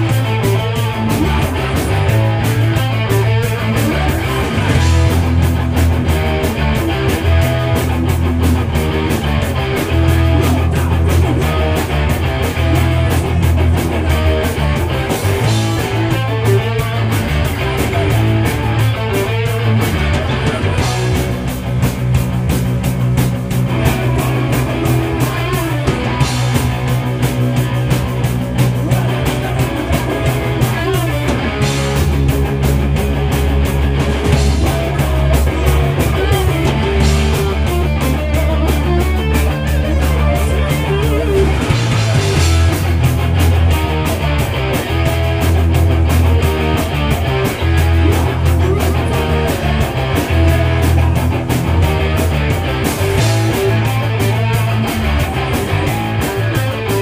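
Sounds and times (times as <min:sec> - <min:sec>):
distorted electric guitars: 0:00.0 - 0:57.0
fast drumming: 0:00.0 - 0:57.0.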